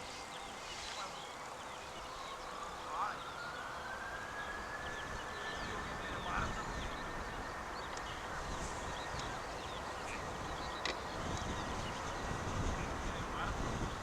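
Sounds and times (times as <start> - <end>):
distant jet engines spooling up: 0.0 - 14.0.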